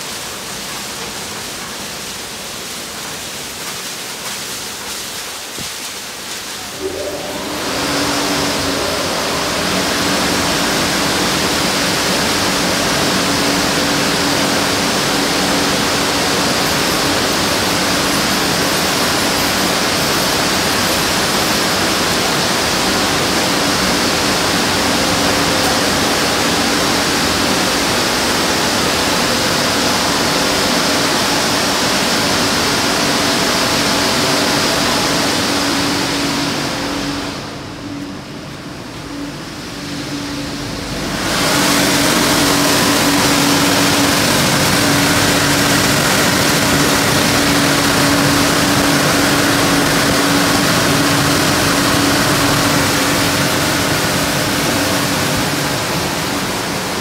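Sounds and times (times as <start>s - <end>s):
water sprays hissing: 0.0s - 37.6s, 39.1s - 57.0s
rotating brushes churning: 0.0s - 57.0s
steady motor hum: 0.0s - 57.0s.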